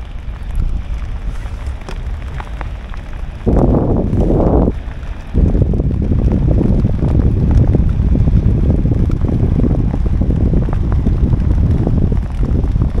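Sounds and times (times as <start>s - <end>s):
rain tapping: 0.0s - 13.0s
wind buffeting microphone: 0.0s - 13.0s.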